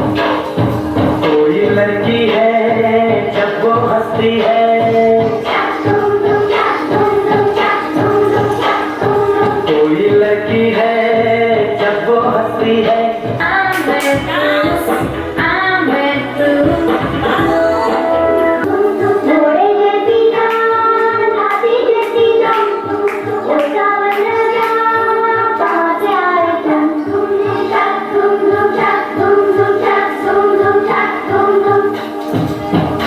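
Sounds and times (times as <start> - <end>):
backing music with steady beat: 0.0 - 33.0
group of voices singing: 1.2 - 33.0.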